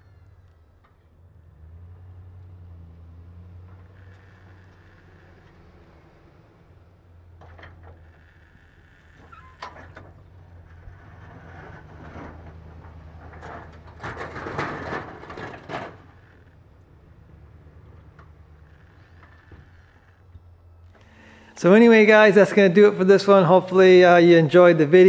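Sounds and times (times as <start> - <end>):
pickup truck idling: 0.0 - 25.0.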